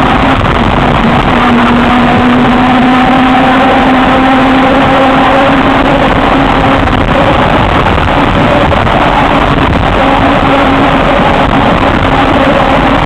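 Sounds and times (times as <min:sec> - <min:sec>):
electric motor hum: 0:00.0 - 0:13.0
wind rushing over microphone: 0:00.0 - 0:13.0.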